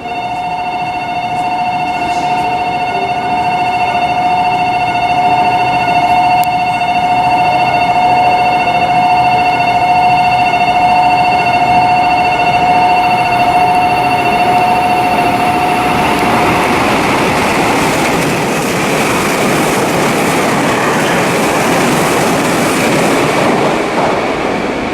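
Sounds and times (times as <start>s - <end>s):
two-tone train warning ring: 0.0s - 24.9s.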